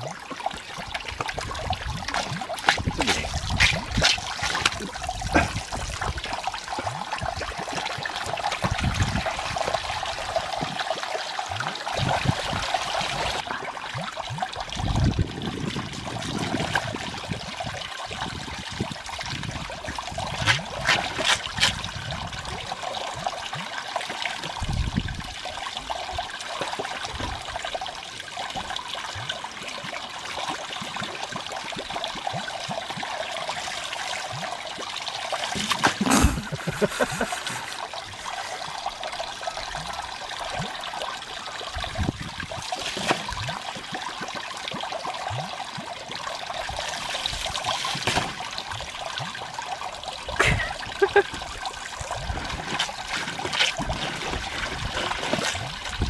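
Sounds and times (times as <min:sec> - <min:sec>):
water running from a hose: 0:00.4 - 0:56.0.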